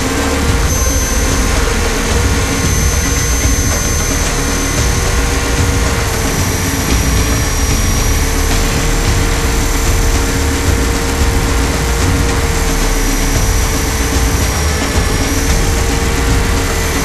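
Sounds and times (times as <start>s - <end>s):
motor whine: 0.0s - 17.0s.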